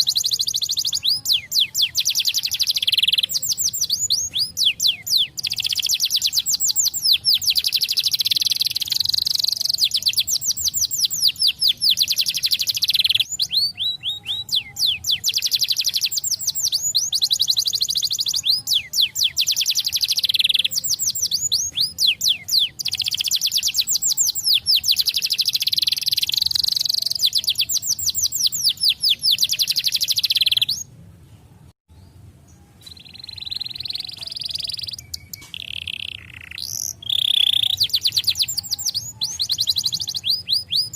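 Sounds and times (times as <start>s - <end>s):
canary singing fast trills: 0.0s - 30.9s, 32.8s - 40.9s.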